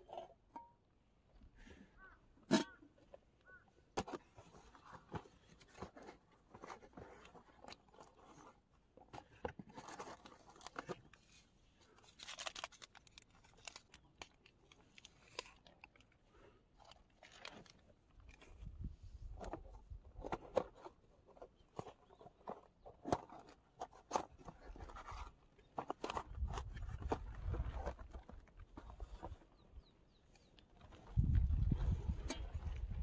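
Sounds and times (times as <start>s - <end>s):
objects handled clicking and rustling: 2.5s - 18.7s, 19.3s - 29.6s, 30.2s - 33.0s.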